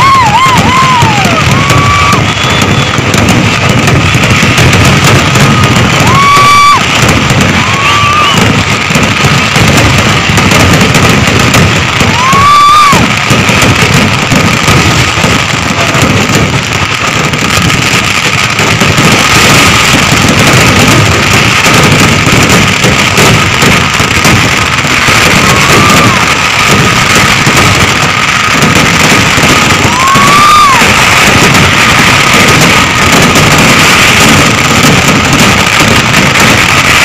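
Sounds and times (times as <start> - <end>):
firework whistle: 0.0 - 37.0
fireworks bangs and crackling: 0.0 - 37.0.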